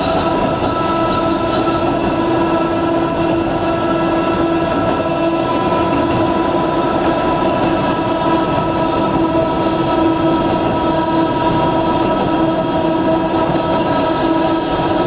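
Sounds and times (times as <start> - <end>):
train motors and gears whining: 0.0 - 15.0
wheels rumbling on rails: 0.0 - 15.0.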